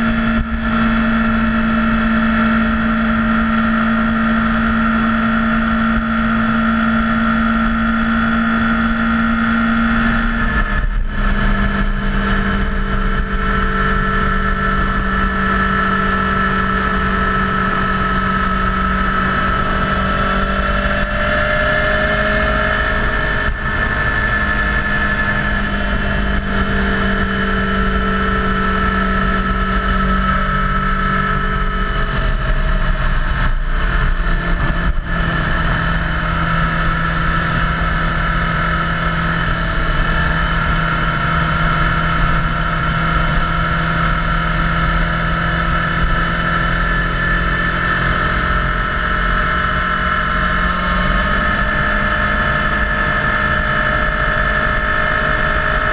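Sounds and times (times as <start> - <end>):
motorcycle engine cruising: 0.0 - 55.9
road rumble: 0.0 - 55.9
wind noise: 0.0 - 55.9.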